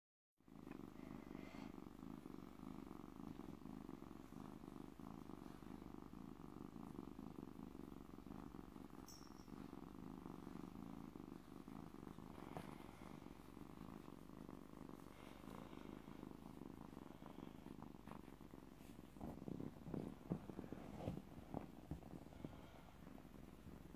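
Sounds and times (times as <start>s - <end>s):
kitten purring: 0.4s - 23.9s.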